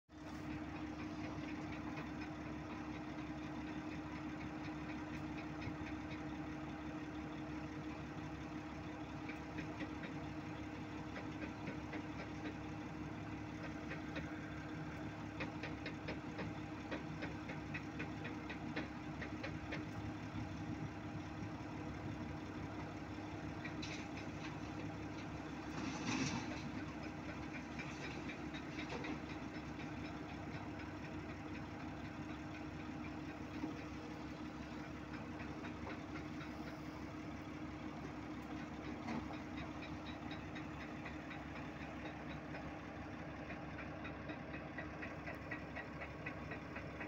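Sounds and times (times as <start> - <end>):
diesel machinery engine idling: 0.1 - 47.0.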